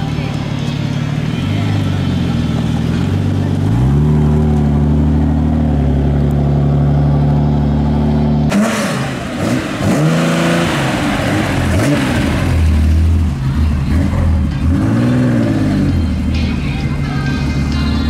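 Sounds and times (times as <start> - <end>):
car engine pulling away: 0.0 - 18.0
car engine revving in blips: 0.2 - 16.6.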